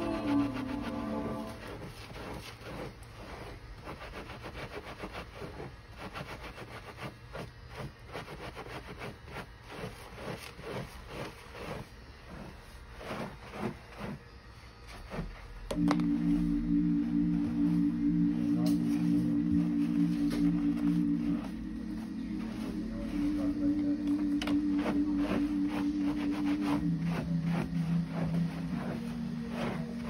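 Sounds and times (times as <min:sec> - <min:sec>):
brush scrubbing wet hair: 0:00.0 - 0:30.0.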